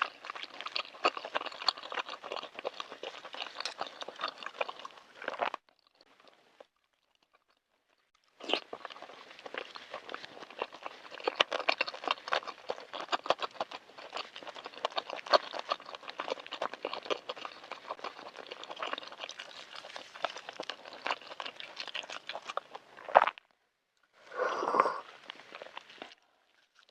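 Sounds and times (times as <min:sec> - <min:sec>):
close chewing and mouth sounds: 0:00.0 - 0:26.9.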